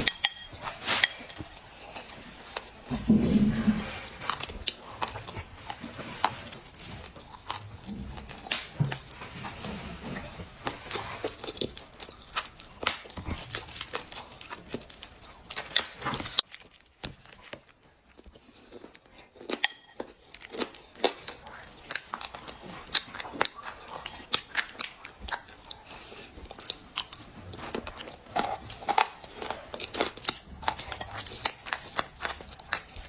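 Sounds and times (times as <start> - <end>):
dry clay crunching and crackling: 0.7 - 33.0.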